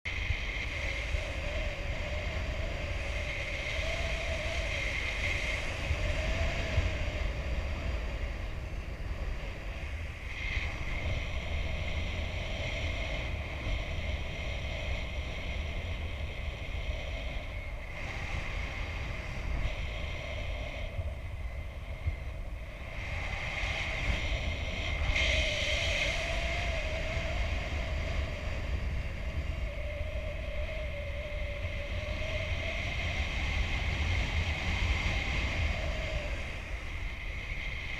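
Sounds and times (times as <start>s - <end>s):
steady wind whistle: 0.0s - 37.9s
wind buffeting microphone: 0.0s - 37.9s.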